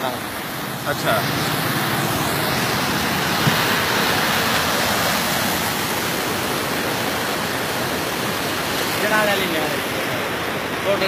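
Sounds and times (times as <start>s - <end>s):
water rushing and churning: 0.0s - 11.0s.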